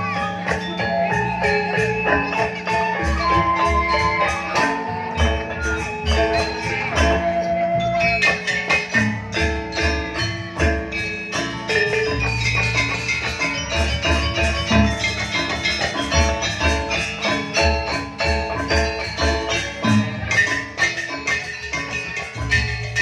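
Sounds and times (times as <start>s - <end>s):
metallophones playing melody: 0.0s - 23.0s.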